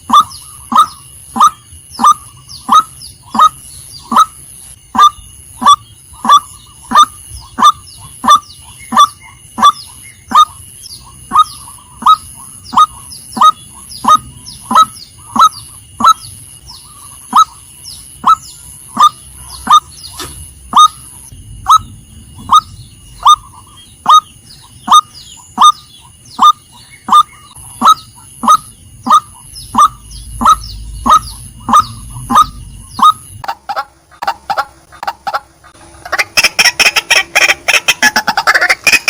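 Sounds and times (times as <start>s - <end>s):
waterhen calling: 0.0s - 17.6s, 18.2s - 39.0s.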